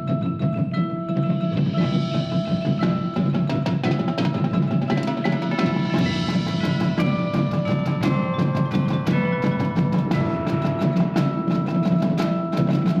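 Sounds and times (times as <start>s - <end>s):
drums: 0.0s - 13.0s
mallet percussion melody: 0.0s - 13.0s.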